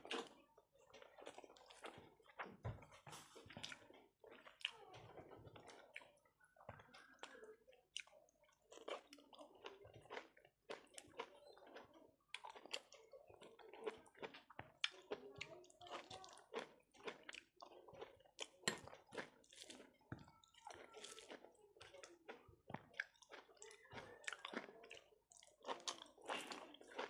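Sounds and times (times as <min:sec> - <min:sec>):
person chewing: 0:00.0 - 0:06.1, 0:08.7 - 0:27.0.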